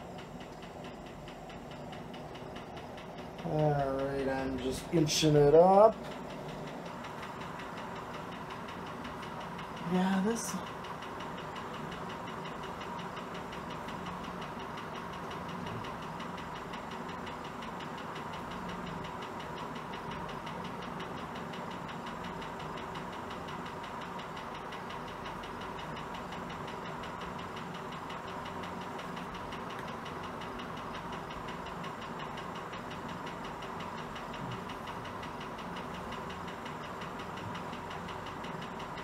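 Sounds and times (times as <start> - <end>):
ceiling fan motor hum: 0.0 - 39.0
rapid ticking of fan bearings: 0.0 - 39.0.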